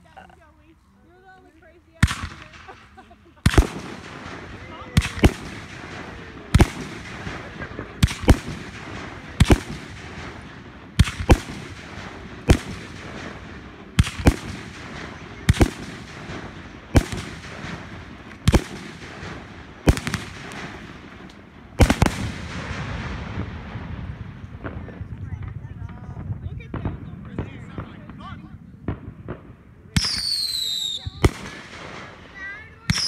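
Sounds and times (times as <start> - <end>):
fireworks bursting: 1.1 - 33.0.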